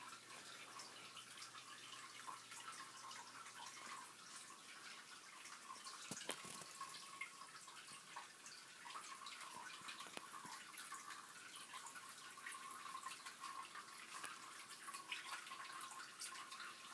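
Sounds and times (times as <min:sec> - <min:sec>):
faint steady hiss: 0:00.0 - 0:16.9.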